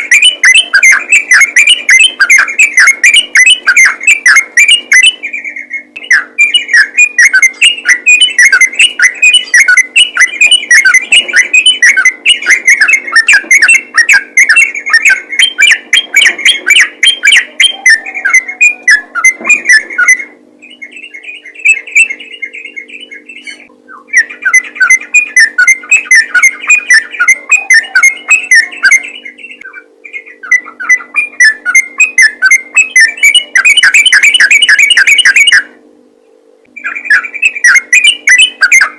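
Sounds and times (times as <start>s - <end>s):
bulbul chattering song: 0.0s - 38.9s
faint steady hum: 0.0s - 38.9s.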